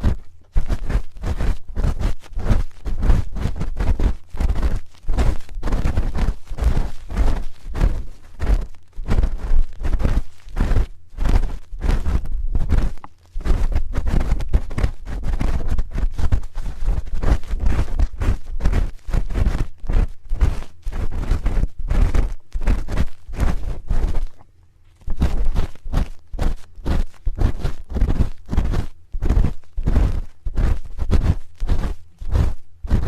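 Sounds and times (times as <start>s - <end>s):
low microphone contact rumble: 0.0s - 33.0s
spoon scraping microphone: 0.0s - 33.0s.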